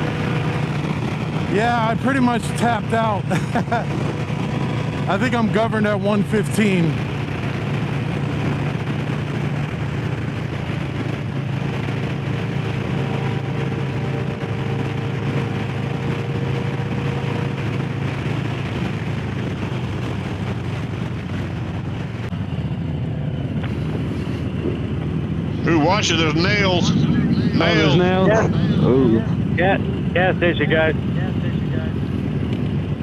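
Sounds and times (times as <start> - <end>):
motorcycle engine at high speed: 0.0 - 33.0
wind rush on microphone: 0.0 - 33.0.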